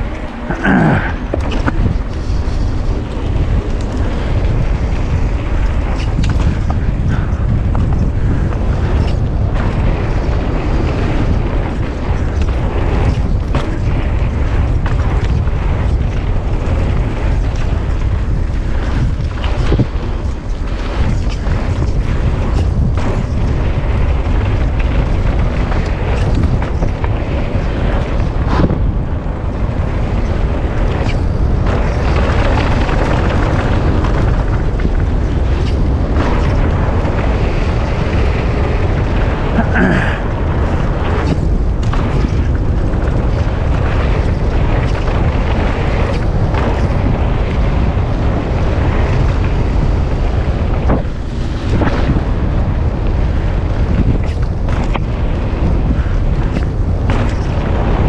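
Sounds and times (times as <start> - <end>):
bike knocking and rattling over bumps: 0.0 - 58.0
wind buffeting microphone: 0.0 - 58.0.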